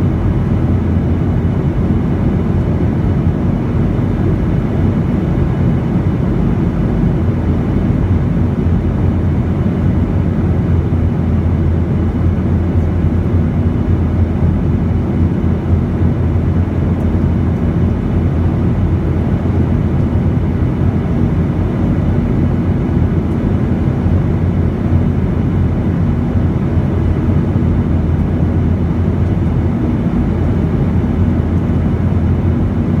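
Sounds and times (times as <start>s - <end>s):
aircraft engines and airflow: 0.0s - 33.0s
faint constant hum: 0.0s - 33.0s.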